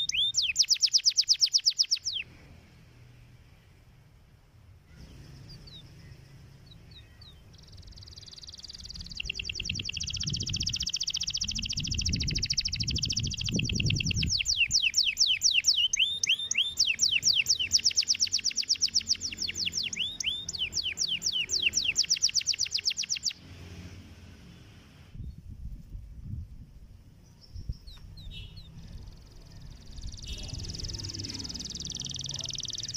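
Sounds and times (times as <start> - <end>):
canary singing: 0.0 - 2.4, 4.9 - 23.5, 27.2 - 32.9.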